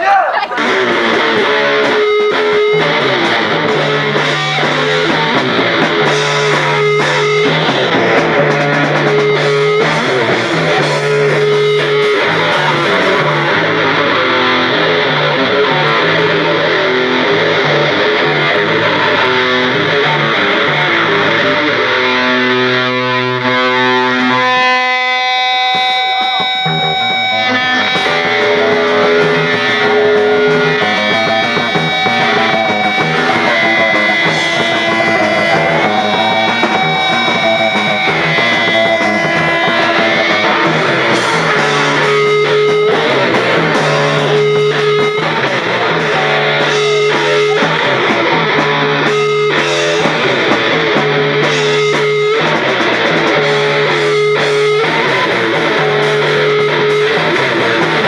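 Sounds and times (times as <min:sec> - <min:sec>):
bass guitar: 0:00.0 - 0:58.0
distorted electric guitar: 0:00.0 - 0:58.0
drums: 0:00.0 - 0:58.0.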